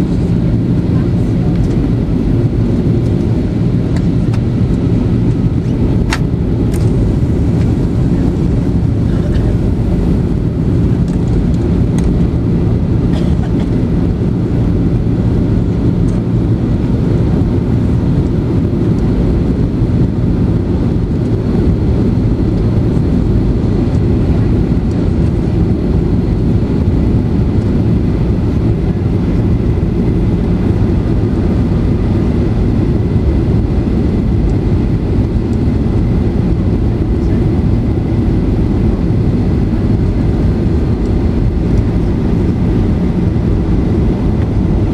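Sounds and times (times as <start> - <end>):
airflow over fuselage: 0.0 - 44.9
jet engines rumbling: 0.0 - 44.9.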